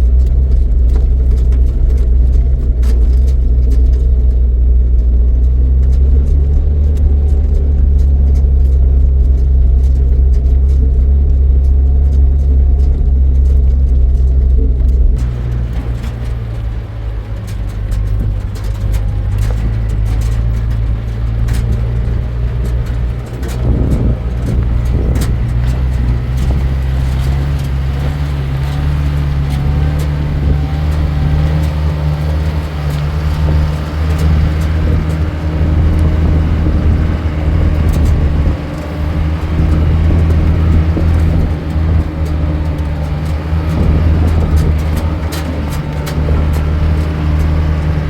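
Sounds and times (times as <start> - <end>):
road noise: 0.0 - 48.0
vehicle engine running: 0.0 - 48.0.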